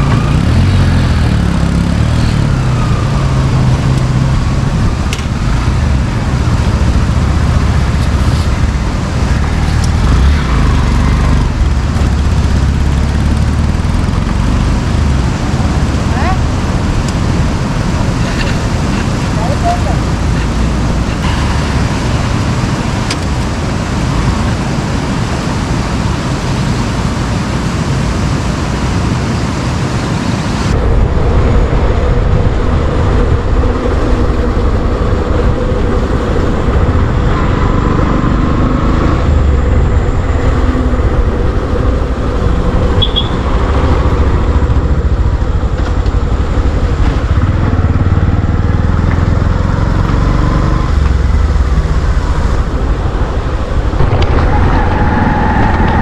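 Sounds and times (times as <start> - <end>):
motorcycle engine rumble: 0.0 - 26.2, 30.6 - 56.0
wind noise on microphone: 0.0 - 56.0.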